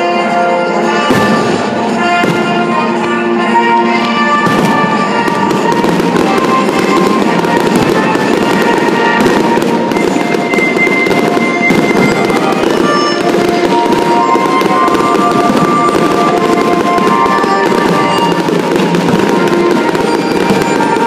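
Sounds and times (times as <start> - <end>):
music playing: 0.0 - 21.0
fireworks bursting and crackling: 0.8 - 21.0.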